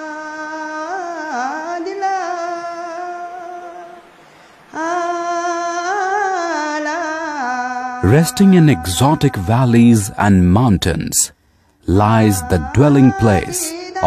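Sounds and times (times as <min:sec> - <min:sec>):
solo voice singing held notes: 0:00.0 - 0:11.0, 0:11.9 - 0:14.0.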